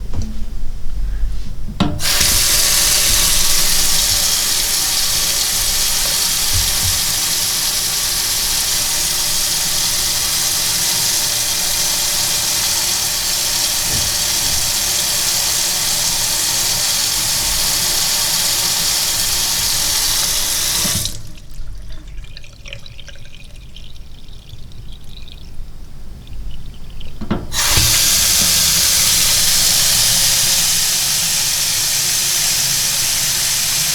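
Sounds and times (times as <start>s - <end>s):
water tap running: 1.8s - 33.9s.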